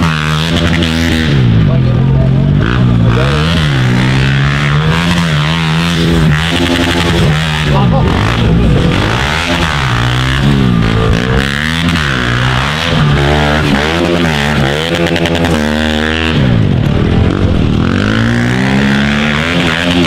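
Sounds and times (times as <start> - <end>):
pit bike engines revving: 0.0 - 20.0.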